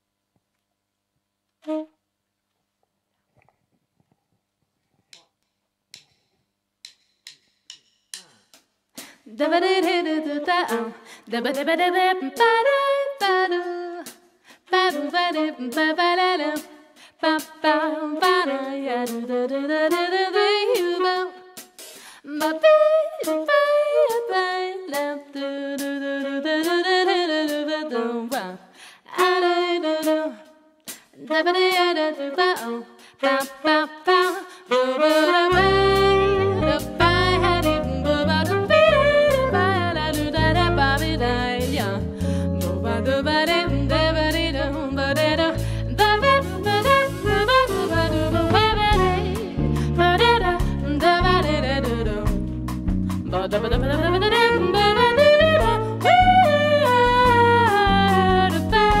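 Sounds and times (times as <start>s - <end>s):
alto saxophone: 1.6s - 2.1s, 9.4s - 13.9s, 14.7s - 30.6s, 31.3s - 59.0s
woman singing: 9.2s - 21.6s, 22.2s - 30.6s, 31.2s - 52.4s, 53.2s - 59.0s.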